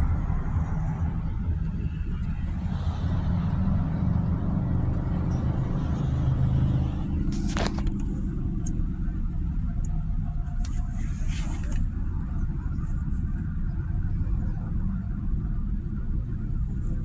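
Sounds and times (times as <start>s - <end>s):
car interior driving rumble: 0.0s - 17.0s.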